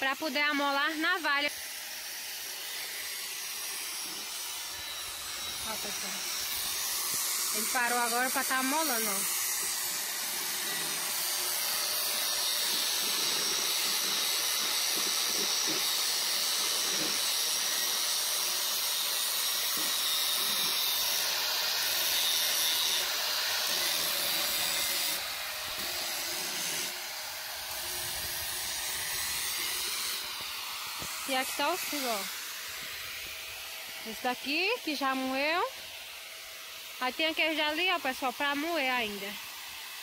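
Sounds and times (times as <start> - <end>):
angle grinder grinding steel: 0.0 - 40.0.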